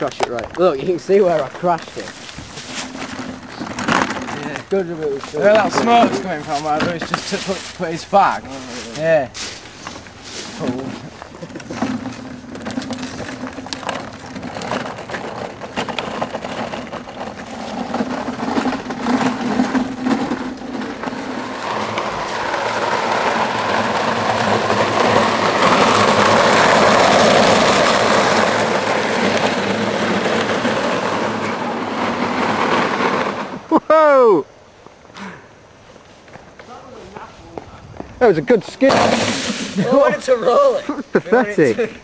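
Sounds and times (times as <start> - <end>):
go-kart wheels rumbling on gravel: 0.0 - 42.0.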